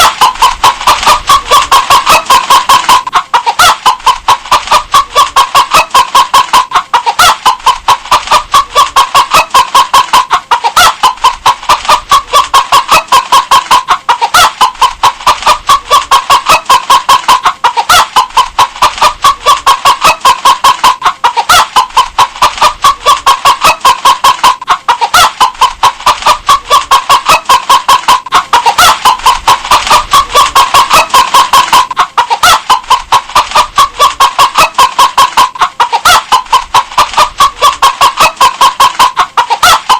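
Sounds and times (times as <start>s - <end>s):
hen clucking: 0.0s - 39.9s.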